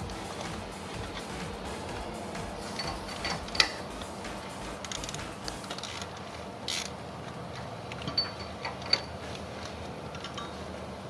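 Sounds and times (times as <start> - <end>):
ratchet clicking: 0.0 - 10.5.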